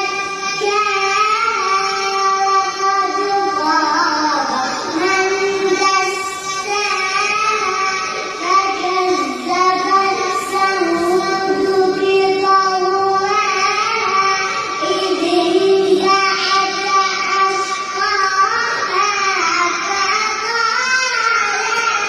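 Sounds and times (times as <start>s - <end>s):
child chanting recitation: 0.0s - 22.0s.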